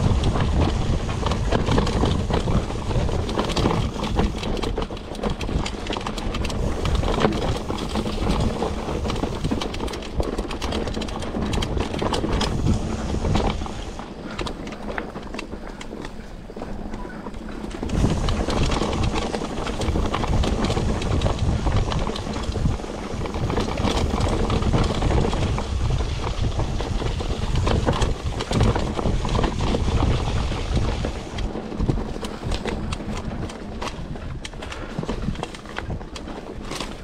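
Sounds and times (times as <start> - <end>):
bike rattling over rough trail: 0.0 - 37.0
wind rumble on microphone: 0.0 - 37.0.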